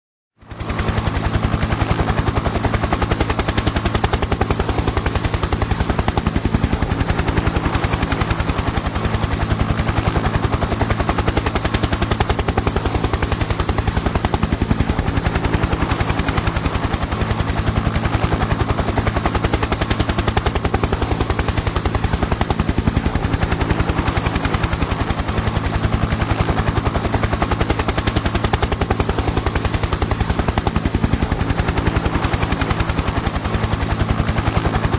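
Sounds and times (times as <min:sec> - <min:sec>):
helicopter engine drone: 0:00.4 - 0:34.9
helicopter rotor chopping: 0:00.4 - 0:34.9.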